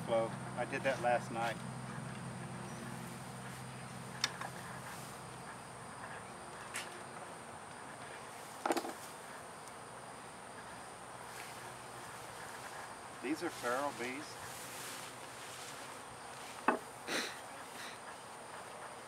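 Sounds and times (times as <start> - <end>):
bees buzzing: 1.6 - 19.0.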